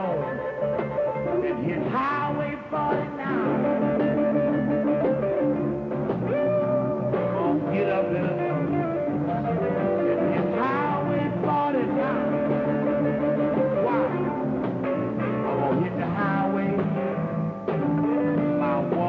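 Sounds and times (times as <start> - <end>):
electric blues band playing: 0.0 - 19.0
lead guitar bending high notes: 0.0 - 19.0.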